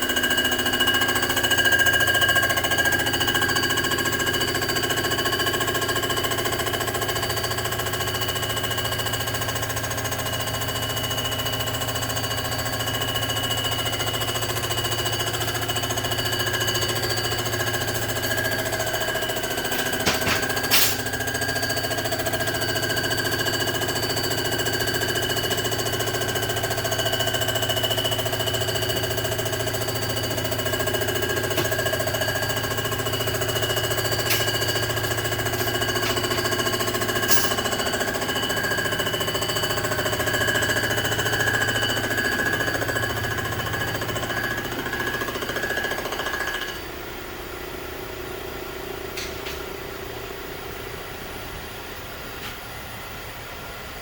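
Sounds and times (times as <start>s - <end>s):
machine cutter rattling and whining: 0.2s - 46.9s.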